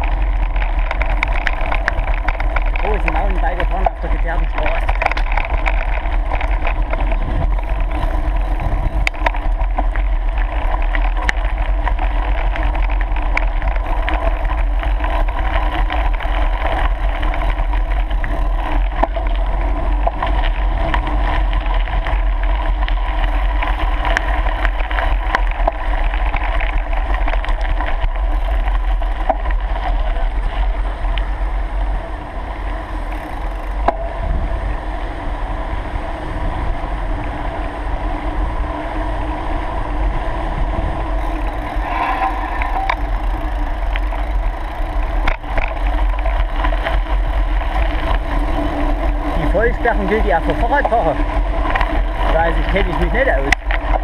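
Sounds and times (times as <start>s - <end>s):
bike clicks and rattles: 0.0s - 54.0s
bike tyres crunching gravel: 0.0s - 54.0s
wind buffeting microphone: 0.0s - 54.0s.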